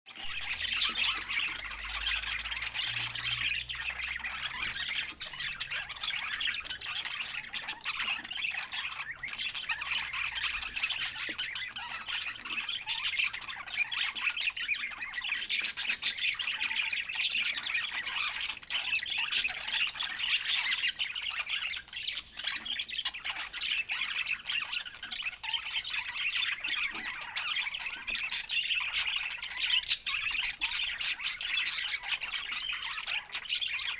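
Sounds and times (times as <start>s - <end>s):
budgerigars chattering: 0.2s - 33.9s.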